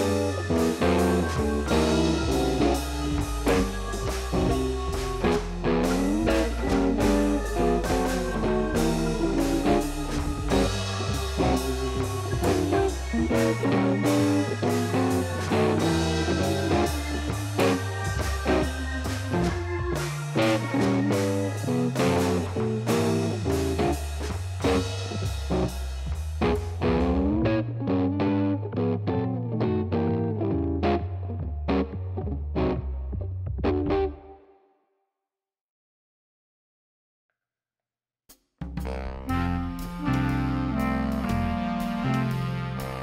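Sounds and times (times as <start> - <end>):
bluesy rock music: 0.0 - 34.4, 38.9 - 43.0.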